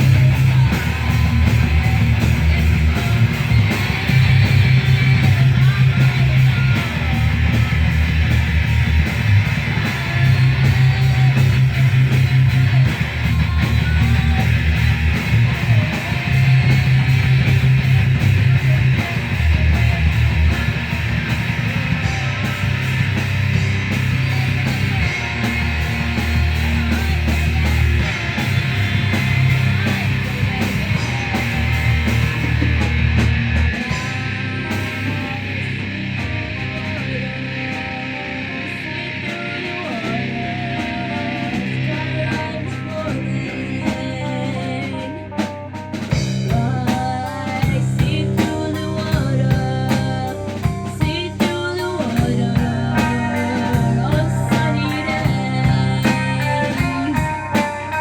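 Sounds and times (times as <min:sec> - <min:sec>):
rock band playing heavy song: 0:00.0 - 0:58.0.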